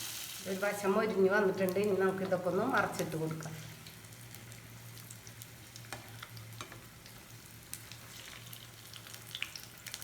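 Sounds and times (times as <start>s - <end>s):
oil sizzling in a pan: 0.0s - 10.0s.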